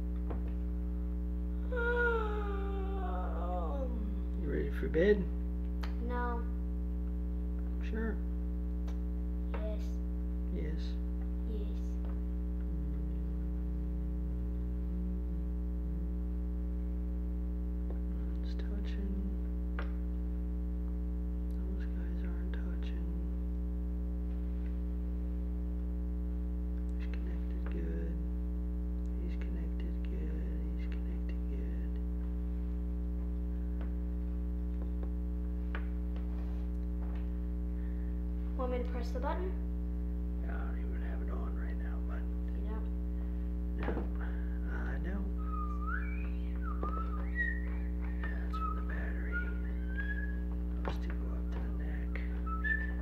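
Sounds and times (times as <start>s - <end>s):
faint low wavering tone: 0.0s - 5.7s, 6.6s - 53.0s
electrical mains hum: 0.0s - 53.0s.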